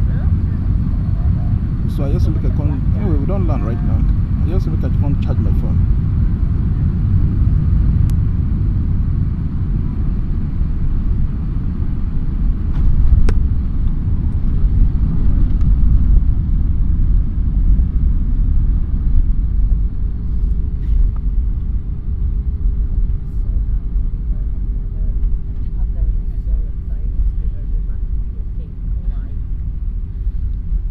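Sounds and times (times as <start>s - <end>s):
airliner cabin rumble: 0.0s - 30.9s
faint steady hum: 0.0s - 30.9s.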